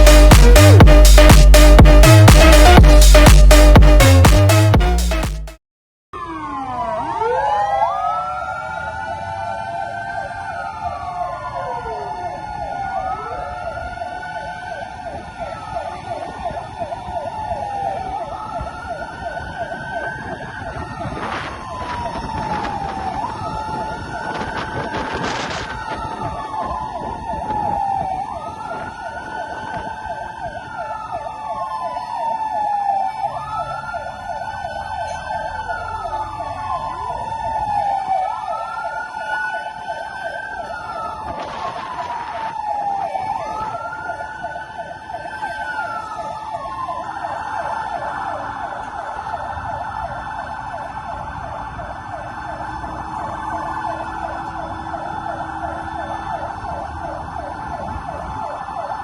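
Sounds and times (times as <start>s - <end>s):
siren warbling yelp: 0.0s - 5.2s, 6.2s - 59.0s
siren wail: 0.0s - 5.4s, 6.2s - 59.0s.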